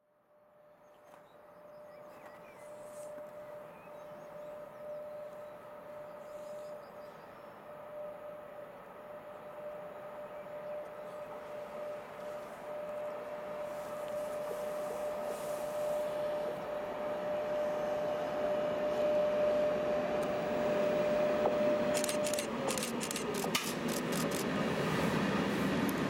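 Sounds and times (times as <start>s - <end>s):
electric locomotive whine: 0.0s - 26.0s.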